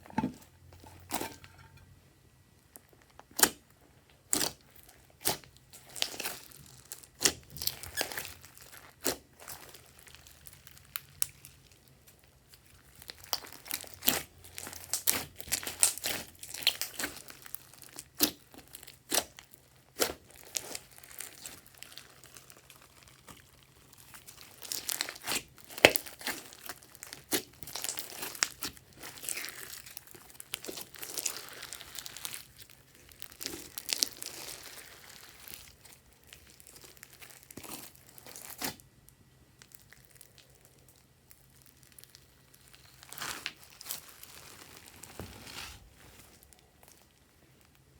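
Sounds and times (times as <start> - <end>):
slime clicking and crackling: 2.8 - 38.9, 39.6 - 45.7.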